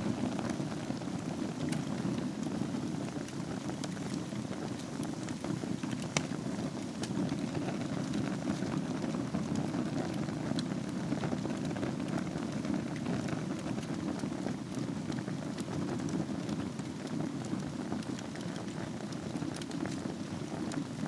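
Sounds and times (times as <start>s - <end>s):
fire burning in a fireplace: 0.0s - 21.0s
fire crackling and popping: 0.0s - 21.0s.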